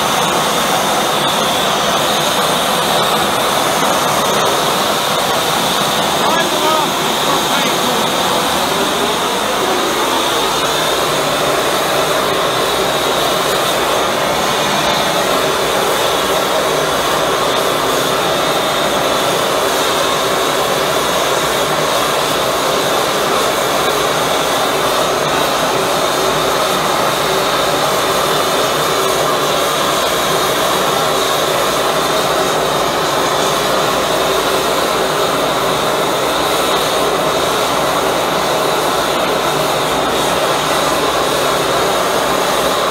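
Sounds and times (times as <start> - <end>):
propane burner roaring: 0.0 - 42.9.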